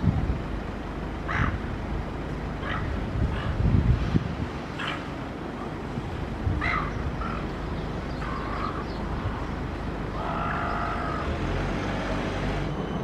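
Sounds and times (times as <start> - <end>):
low city rumble: 0.0 - 13.0
gulls calling: 0.6 - 3.7, 4.6 - 13.0.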